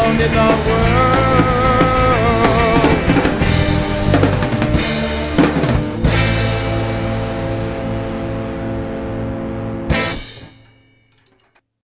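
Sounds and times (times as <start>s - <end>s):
indie rock band playing: 0.0s - 10.5s.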